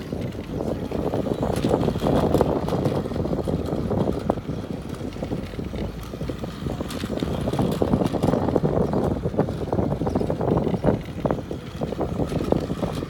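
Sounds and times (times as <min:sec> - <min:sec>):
toy train motor whirring: 0:00.0 - 0:13.0
wheels clicking on plastic track: 0:00.0 - 0:13.0.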